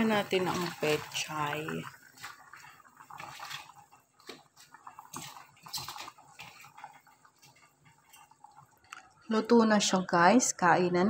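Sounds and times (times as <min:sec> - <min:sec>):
drips and small splashes: 0:00.0 - 0:09.3
broth simmering in a pot: 0:00.0 - 0:11.0
faint bubbling: 0:00.0 - 0:11.0.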